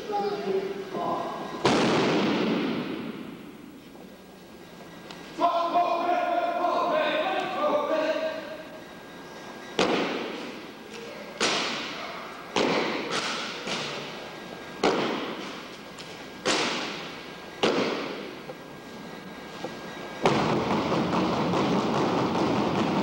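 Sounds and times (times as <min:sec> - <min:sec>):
continuous rush of noise: 0:00.0 - 0:23.0.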